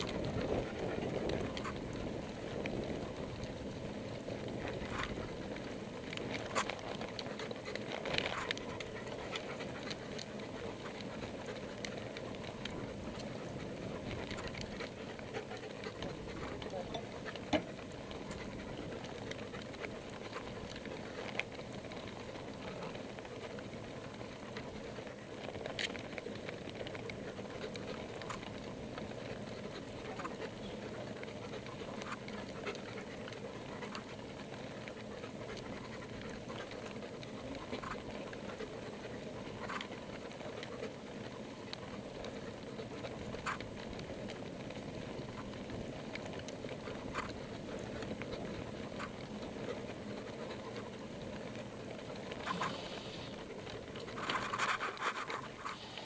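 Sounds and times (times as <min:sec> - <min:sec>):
bicycle tyres rumbling on pavers: 0:00.0 - 0:56.0.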